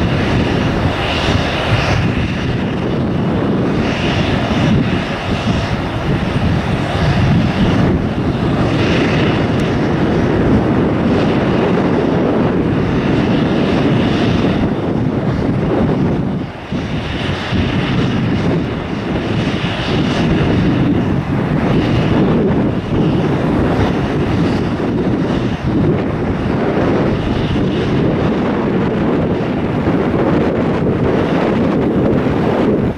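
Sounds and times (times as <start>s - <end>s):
airliner engines roaring: 0.0s - 32.9s.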